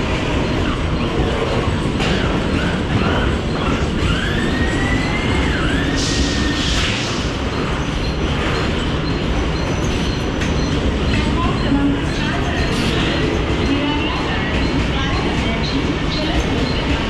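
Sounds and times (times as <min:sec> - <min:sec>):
train wheels rumbling on rails: 0:00.0 - 0:17.0
train wheels squealing: 0:00.0 - 0:17.0.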